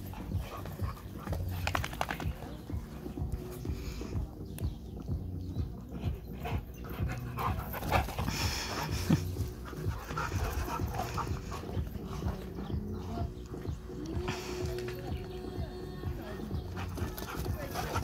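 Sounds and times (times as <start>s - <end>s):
dogs panting: 0.0s - 18.0s.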